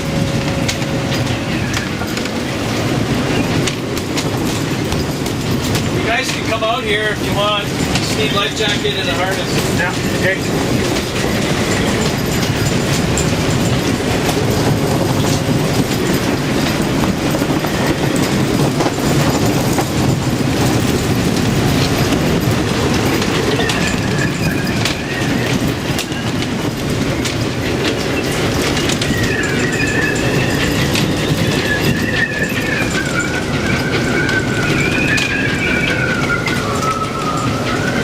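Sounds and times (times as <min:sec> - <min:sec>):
faint whistling wind: 0:00.0 - 0:38.0
heavy seas: 0:00.0 - 0:38.0
storm wind roaring: 0:00.0 - 0:38.0.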